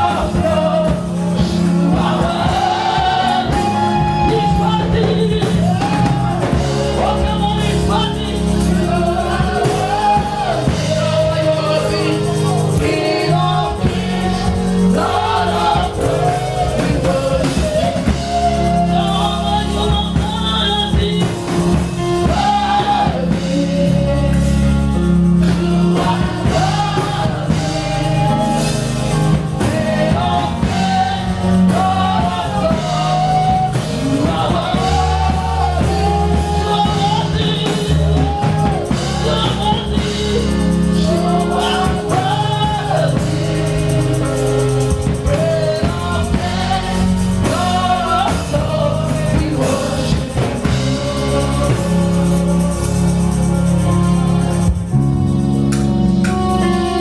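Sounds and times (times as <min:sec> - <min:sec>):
band accompaniment with bass: 0:00.0 - 0:57.0
voices singing gospel: 0:00.0 - 0:57.0.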